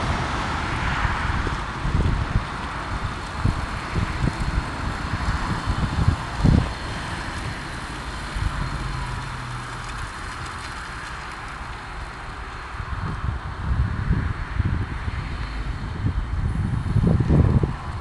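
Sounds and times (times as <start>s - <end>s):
car engine hum: 0.0s - 18.0s
wind buffeting microphone: 0.0s - 18.0s.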